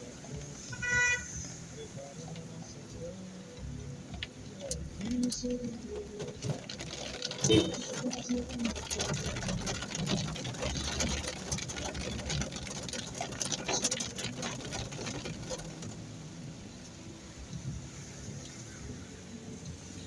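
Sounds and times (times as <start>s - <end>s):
car engine running: 0.0s - 20.0s
raindrops ticking on a car: 0.0s - 20.0s.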